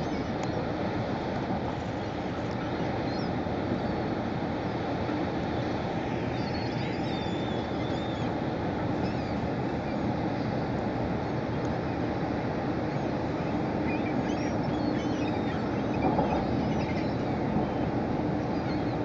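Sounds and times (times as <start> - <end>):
large ship passing: 0.0 - 19.0
water birds calling: 0.0 - 19.0
wind: 0.0 - 19.0.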